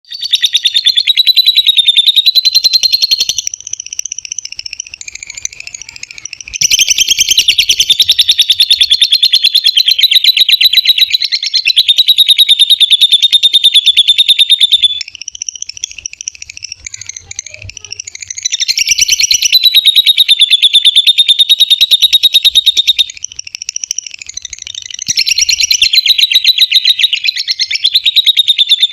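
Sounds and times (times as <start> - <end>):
lovebird chattering trills: 0.0 - 28.9.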